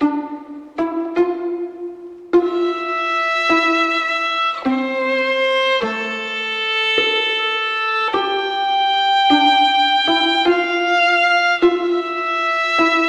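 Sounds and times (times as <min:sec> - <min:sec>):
slow violin music: 0:00.0 - 0:13.0.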